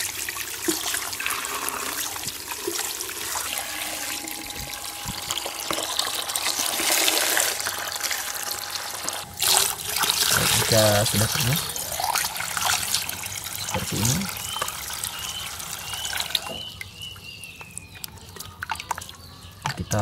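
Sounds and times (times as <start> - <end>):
hose water pouring into bucket: 0.0 - 16.6.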